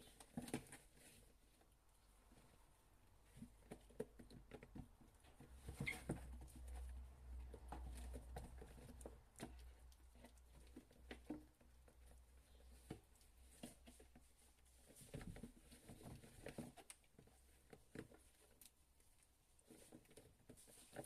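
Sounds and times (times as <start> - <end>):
kittens tapping and scuffling: 0.0 - 21.0.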